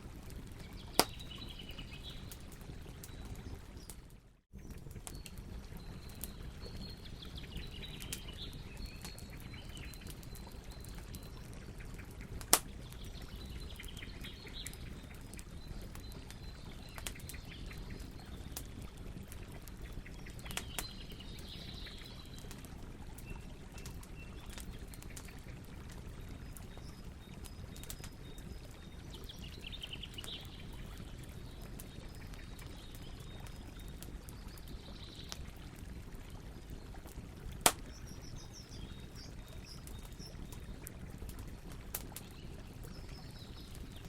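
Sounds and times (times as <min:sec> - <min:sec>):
campfire crackling: 0:00.0 - 0:44.0.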